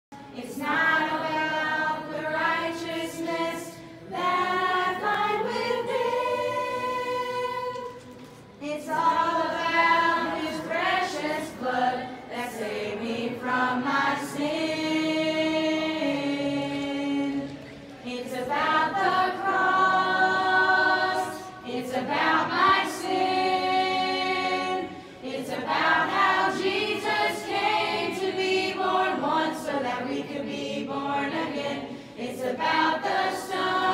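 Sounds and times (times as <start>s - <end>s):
choir singing unaccompanied: 0.2s - 33.9s.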